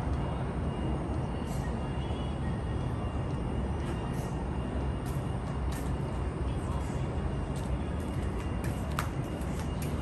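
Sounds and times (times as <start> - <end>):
distant city rumble: 0.0 - 10.0.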